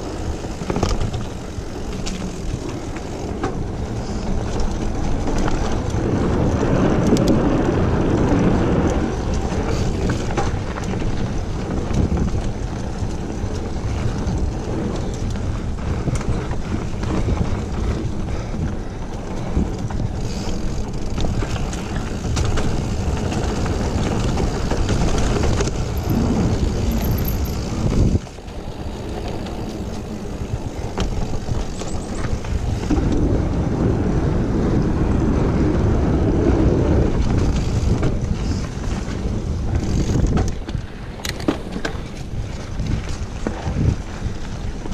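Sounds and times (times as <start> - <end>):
bike clicks and rattles: 0.0 - 44.9
bike tyre and trail noise: 0.0 - 44.9
wind buffeting microphone: 0.0 - 44.9.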